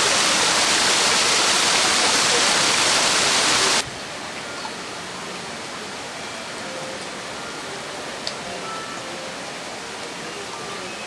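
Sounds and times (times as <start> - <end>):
quiet hiss of water: 0.0 - 11.0
water rushing down cascade: 0.0 - 11.0.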